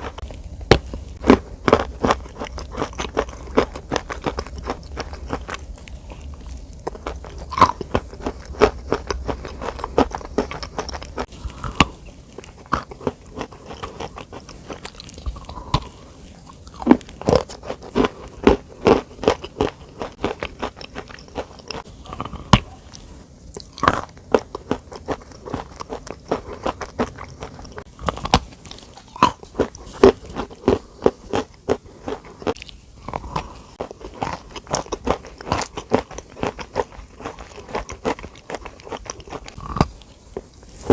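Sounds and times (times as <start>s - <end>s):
close crunching crackles: 0.0s - 40.9s.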